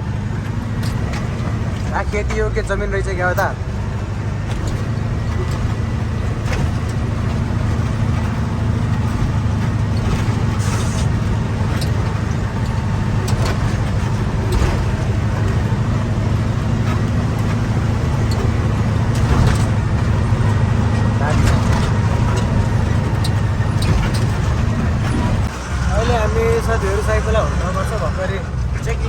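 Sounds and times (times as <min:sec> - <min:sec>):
truck engine droning: 0:00.0 - 0:29.0
truck knocks and rattles: 0:00.0 - 0:29.0.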